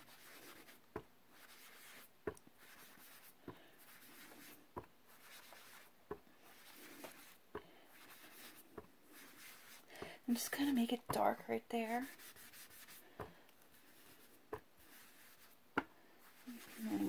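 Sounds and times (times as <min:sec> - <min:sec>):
sponge dauber scrubbing: 0:00.0 - 0:15.6, 0:16.2 - 0:17.0.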